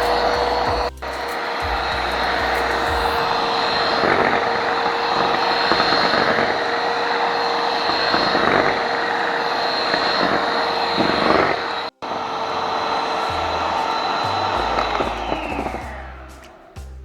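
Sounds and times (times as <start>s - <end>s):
electric mixer whipping cream: 0.0s - 16.8s.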